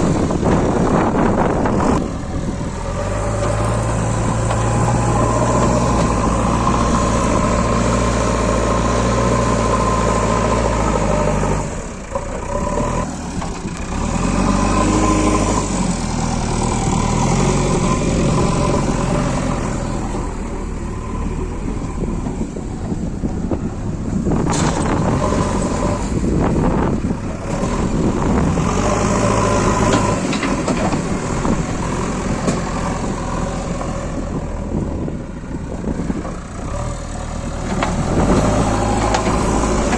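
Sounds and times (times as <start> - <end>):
diesel engines running under work: 0.0 - 39.9.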